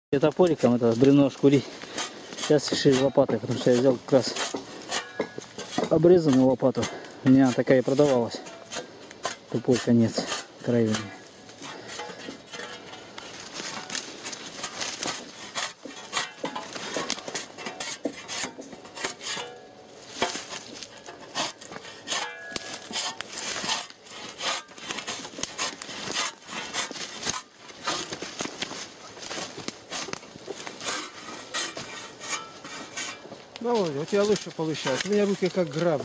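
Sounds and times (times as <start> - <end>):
shovel blade scraping bark: 0.2 - 36.0.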